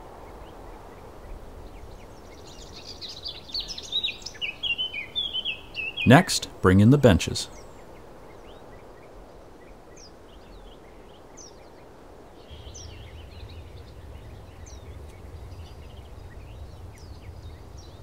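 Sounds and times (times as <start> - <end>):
small birds chirping: 1.6 - 18.0.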